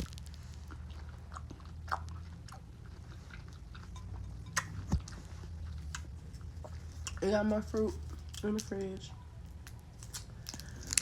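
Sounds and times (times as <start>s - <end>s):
chewing fruit wet clicks: 0.0s - 11.0s.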